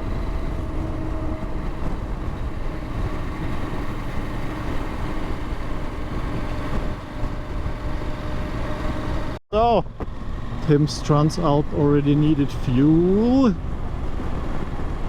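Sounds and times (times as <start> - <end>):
wind noise on microphone: 0.0 - 10.6, 11.6 - 15.0
motorcycle engine hum: 0.0 - 15.0.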